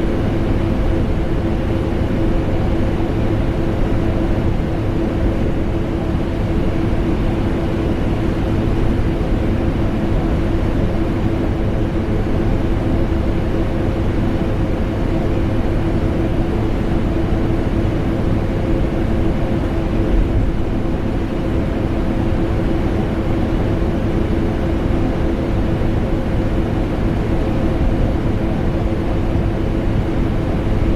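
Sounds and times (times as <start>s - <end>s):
air conditioner hum: 0.0s - 30.9s.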